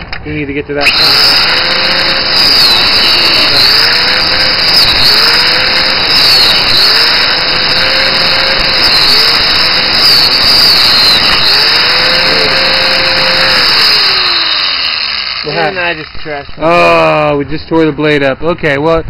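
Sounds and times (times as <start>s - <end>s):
angle grinder cutting metal: 0.8s - 17.3s.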